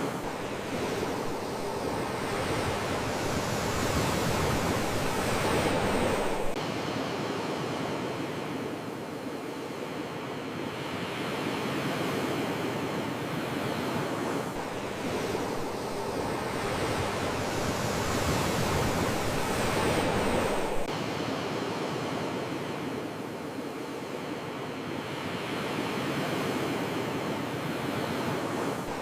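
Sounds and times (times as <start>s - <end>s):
sea waves washing on shore: 0.0s - 29.0s.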